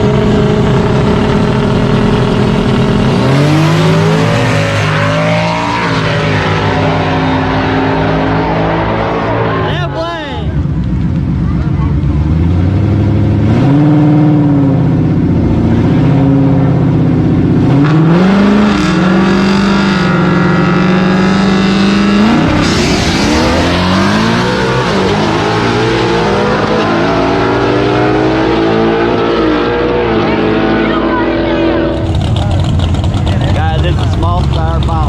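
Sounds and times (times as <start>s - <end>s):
racing car engines revving: 0.0s - 35.0s.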